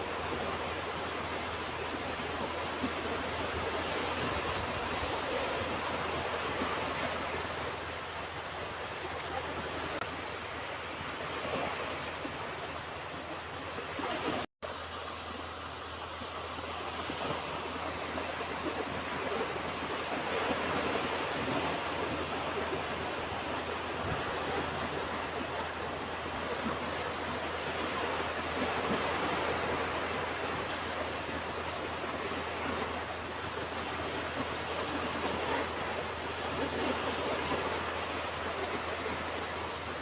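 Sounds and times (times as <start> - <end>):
ocean surf washing on a beach: 0.0 - 40.0.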